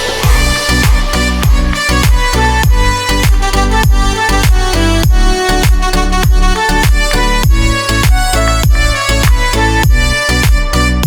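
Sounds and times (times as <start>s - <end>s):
deep bass kick: 0.0s - 11.0s
electronic dance music: 0.0s - 11.0s.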